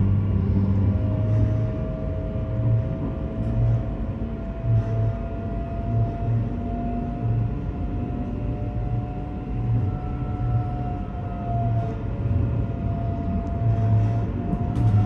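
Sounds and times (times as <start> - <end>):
train throbbing rumble: 0.0 - 15.0
train whine: 0.0 - 15.0.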